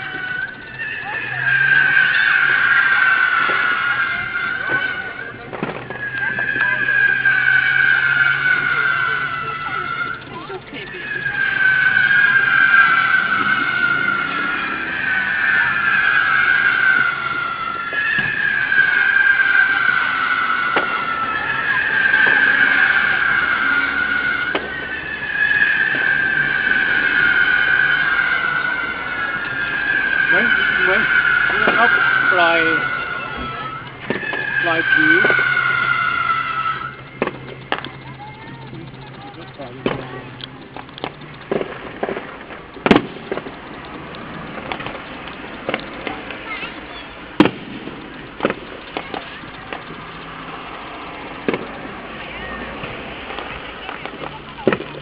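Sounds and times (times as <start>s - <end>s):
fireworks cracking: 0.0s - 55.0s
fireworks whistling: 0.0s - 55.0s.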